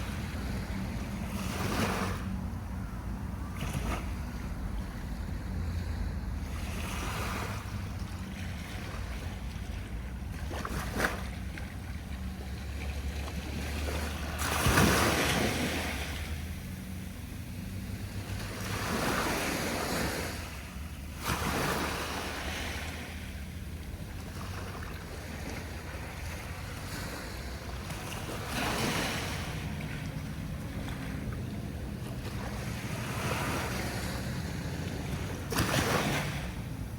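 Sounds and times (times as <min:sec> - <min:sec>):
low wind rumble on microphone: 0:00.0 - 0:36.9
sea waves breaking on shore: 0:00.0 - 0:36.9.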